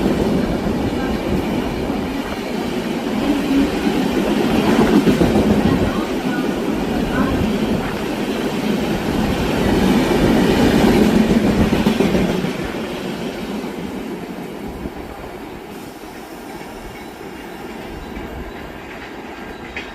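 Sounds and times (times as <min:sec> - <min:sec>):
train wheels on rails: 0:00.0 - 0:19.9.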